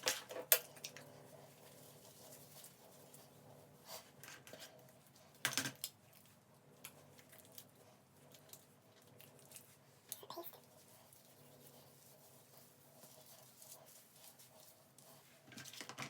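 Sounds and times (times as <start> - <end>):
clicks and rustles of small objects: 0.0 - 16.0.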